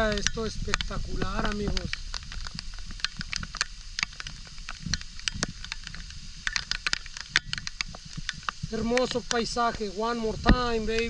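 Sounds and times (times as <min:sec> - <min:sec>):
sharp crackles and taps on mic: 0:00.0 - 0:11.0
waterfall spray: 0:00.0 - 0:11.0
wind at the microphone: 0:00.0 - 0:11.0.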